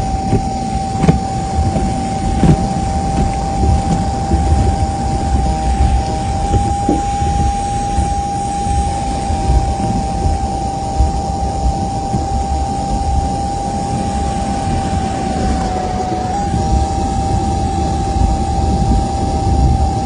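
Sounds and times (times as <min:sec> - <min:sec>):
car wash machinery rushing: 0:00.0 - 0:20.0
high whine: 0:00.0 - 0:20.0.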